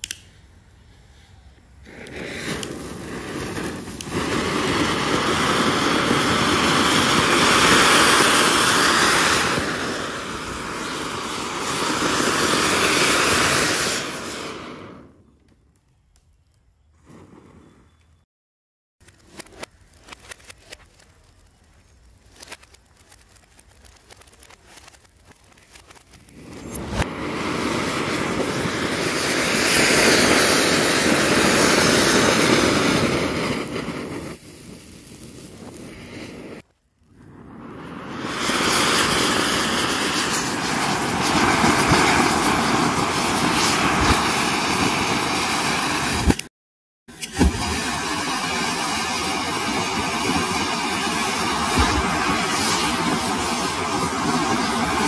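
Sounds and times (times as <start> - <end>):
firework fountain hissing: 0.0 - 15.4, 17.0 - 18.3, 19.0 - 46.5, 47.1 - 55.0
firecracker fuses sputtering: 0.0 - 18.3, 19.0 - 46.5, 47.1 - 55.0.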